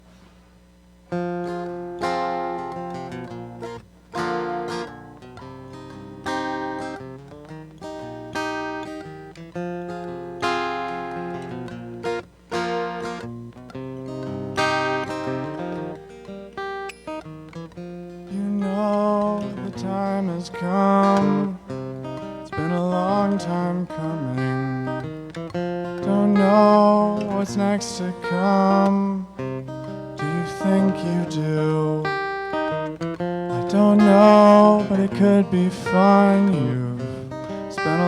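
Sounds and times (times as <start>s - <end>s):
acoustic guitar strummed chords: 0.0s - 38.0s.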